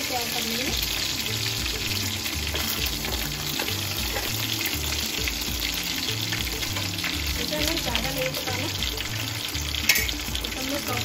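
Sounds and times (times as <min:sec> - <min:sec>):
food sizzling in hot oil: 0:00.0 - 0:11.0
background music with bass: 0:00.7 - 0:11.0.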